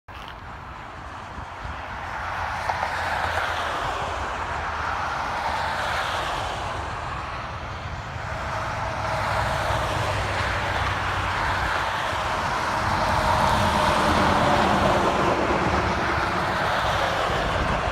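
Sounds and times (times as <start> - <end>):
trucks driving past: 0.1 - 17.9
tyre and road noise: 0.1 - 17.9.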